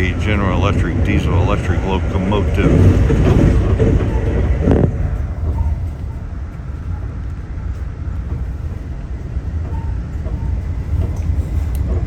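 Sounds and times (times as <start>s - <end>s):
train car rumbling on track: 0.0s - 12.0s.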